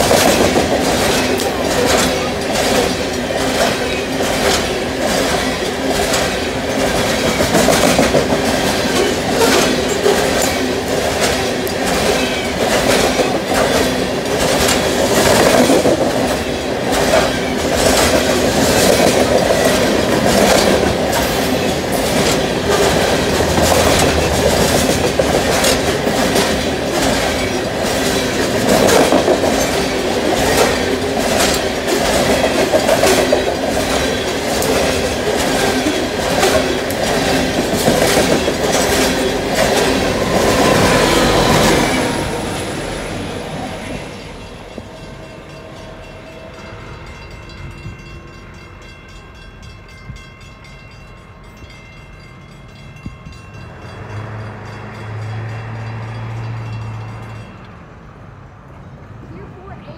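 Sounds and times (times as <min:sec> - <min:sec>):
wheels clickety-clack over rail joints: 0:00.0 - 0:58.0
train wheels rumbling on rail: 0:00.0 - 0:59.8.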